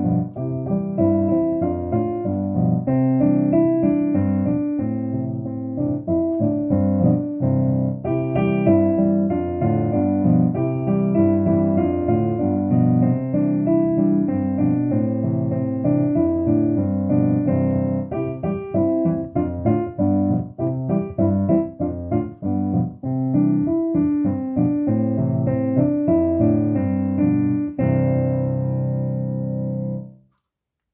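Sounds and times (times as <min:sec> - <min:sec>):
piano chords: 0:00.0 - 0:30.2.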